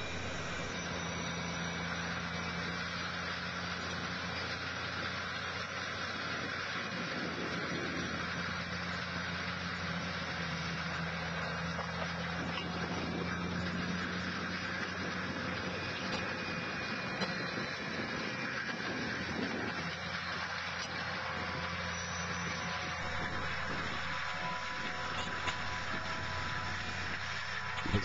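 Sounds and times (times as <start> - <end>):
stump grinder grinding ground: 0.0 - 28.0.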